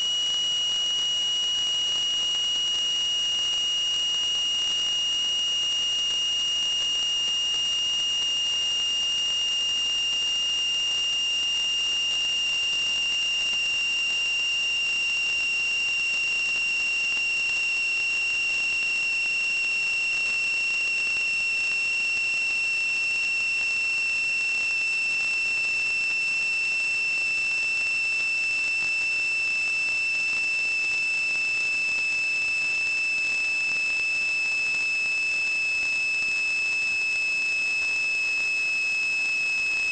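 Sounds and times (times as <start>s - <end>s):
high-pitched electronic whine: 0.0s - 39.9s.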